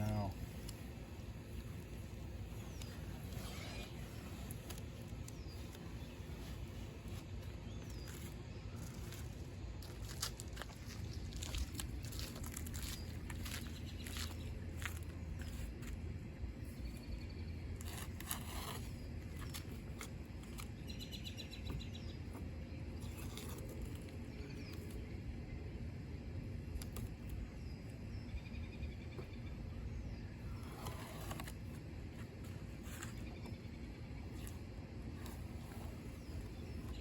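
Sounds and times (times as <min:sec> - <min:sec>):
birds chirping: 0:00.0 - 0:26.1, 0:26.8 - 0:37.0
low outdoor rumble: 0:00.0 - 0:37.0.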